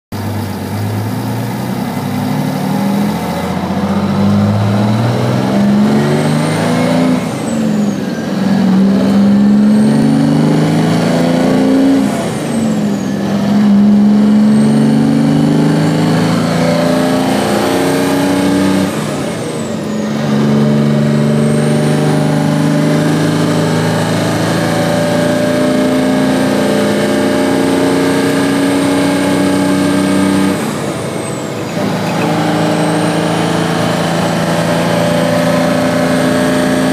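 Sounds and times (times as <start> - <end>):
diesel truck engine accelerating: 0.1 - 36.9.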